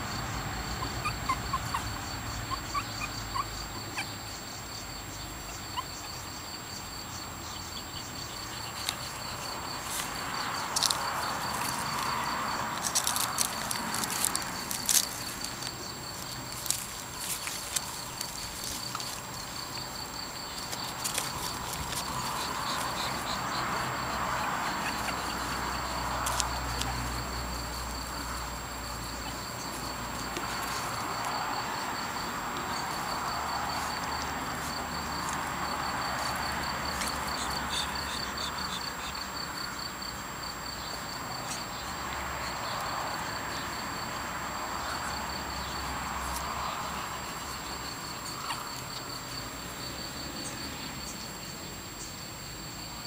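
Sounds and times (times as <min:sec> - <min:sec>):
rapid insect trill: 0:00.0 - 0:53.0.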